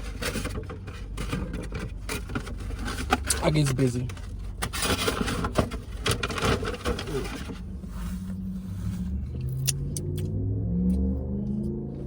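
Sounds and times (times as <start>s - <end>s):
crinkling handling noise: 0.0s - 9.7s.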